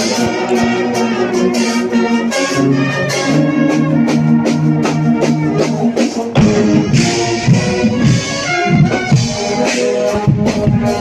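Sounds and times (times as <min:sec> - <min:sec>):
brass sustained chords: 0:00.0 - 0:11.0
steady drum beat: 0:00.0 - 0:11.0.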